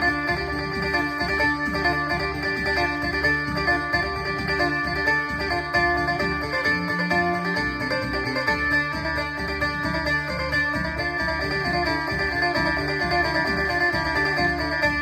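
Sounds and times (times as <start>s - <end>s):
amplified plucked lute melody: 0.0s - 15.0s.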